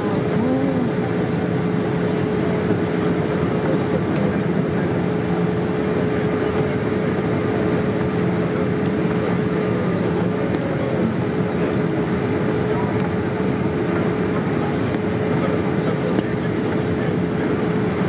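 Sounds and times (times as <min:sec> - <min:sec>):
airliner engine and airflow roar: 0:00.0 - 0:18.0.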